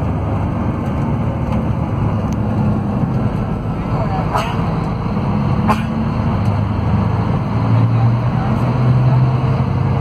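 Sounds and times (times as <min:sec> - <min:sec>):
bus engine drone: 0:00.0 - 0:10.0
road noise: 0:00.0 - 0:10.0.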